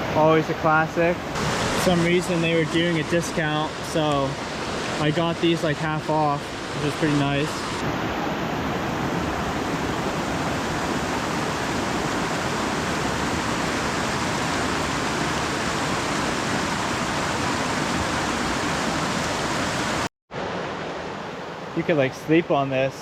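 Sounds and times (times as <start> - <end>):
river water rushing: 0.0 - 21.8.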